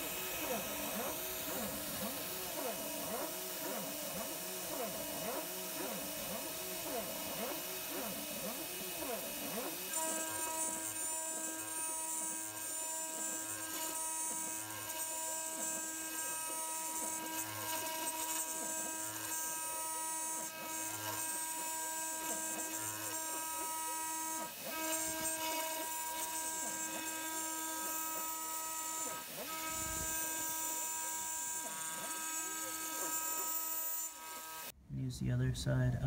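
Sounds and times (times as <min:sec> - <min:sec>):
milling machine whine: 0:00.0 - 0:34.7.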